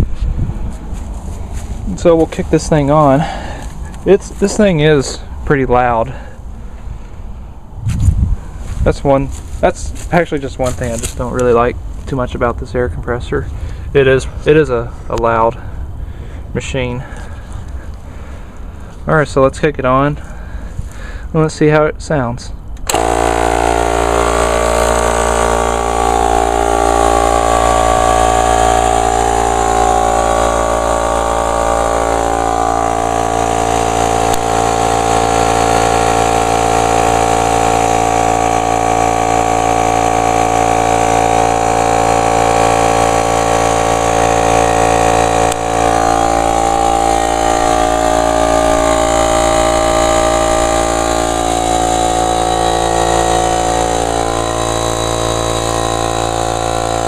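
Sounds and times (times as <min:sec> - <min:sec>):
air compressor running: 0:00.0 - 0:12.1, 0:13.4 - 0:19.1, 0:22.8 - 0:57.0.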